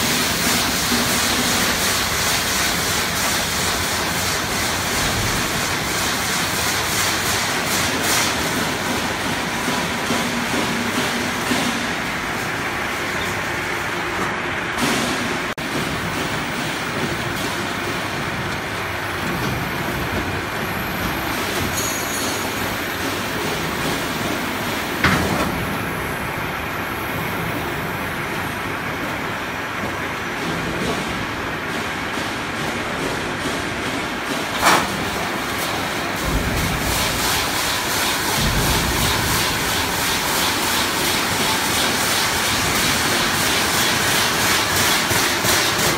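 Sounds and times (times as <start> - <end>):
machinery rumble and hiss: 0.0 - 45.9.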